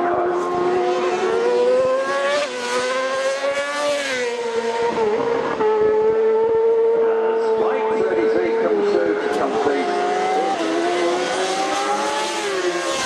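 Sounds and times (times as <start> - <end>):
motorcycle engines revving high: 0.0 - 13.0.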